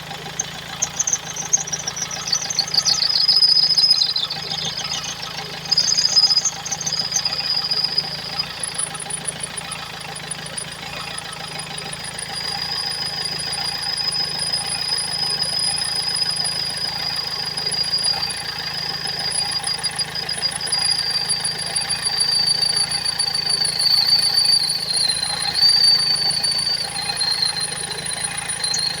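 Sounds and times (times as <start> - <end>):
engine idling: 0.0 - 29.0
high-pitched engine whistle: 0.0 - 29.0.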